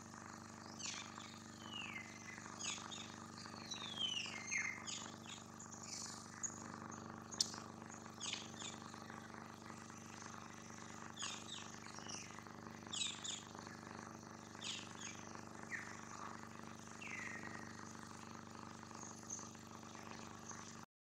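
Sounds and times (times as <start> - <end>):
faint steady hum: 0.0 - 20.9
birds chirping: 0.6 - 20.8.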